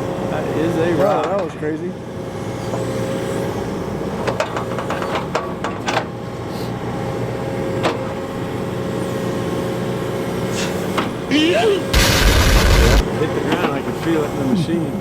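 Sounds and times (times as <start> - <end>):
excavator engine and hydraulics whine: 0.0 - 15.0.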